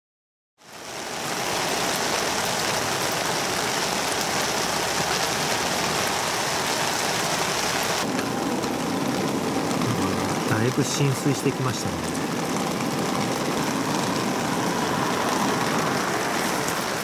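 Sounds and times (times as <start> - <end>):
rain on a tarp: 0.6 - 17.0.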